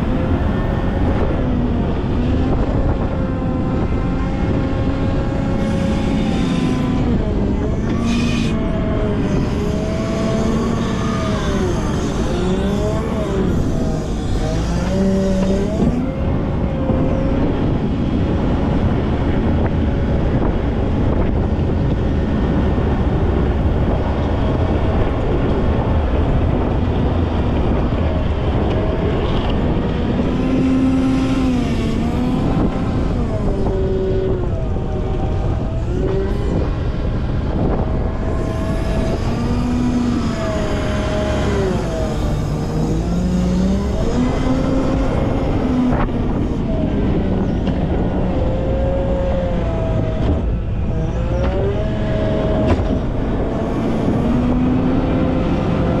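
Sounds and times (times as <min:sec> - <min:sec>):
wheel loader diesel engine revving: 0:00.0 - 0:56.0.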